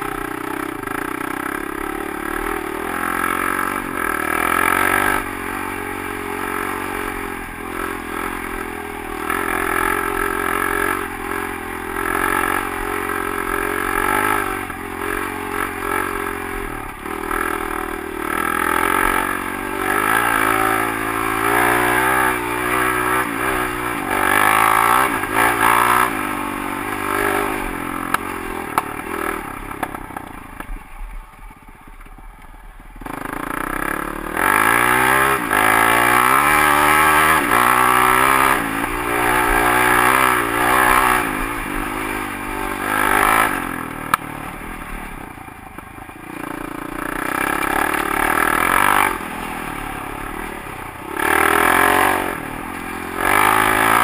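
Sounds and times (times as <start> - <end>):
dirt bike engine revving: 0.0 - 30.4, 33.0 - 54.0.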